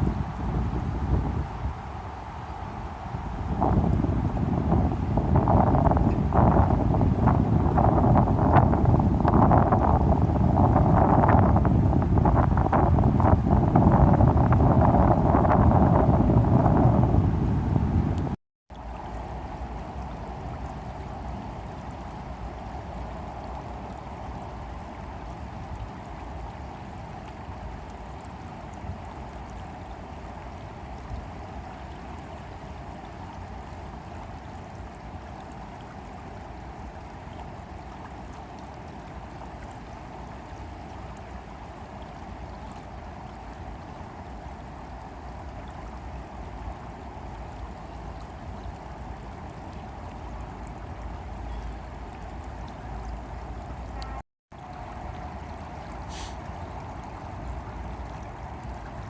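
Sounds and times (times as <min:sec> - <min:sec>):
stream water running: 0:00.0 - 0:59.0
wind rumble: 0:00.0 - 0:59.0.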